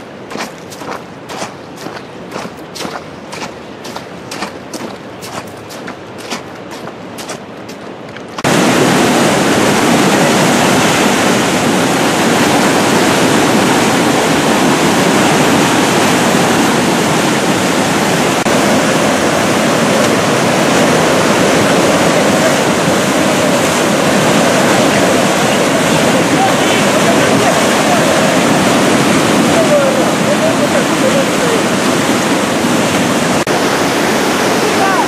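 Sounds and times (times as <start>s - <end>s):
flooded river rushing: 0.0s - 35.0s.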